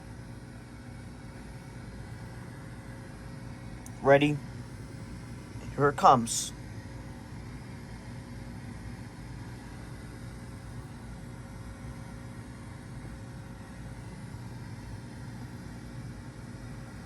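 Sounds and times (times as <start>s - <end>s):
droning hum with tape hiss: 0.0s - 17.0s.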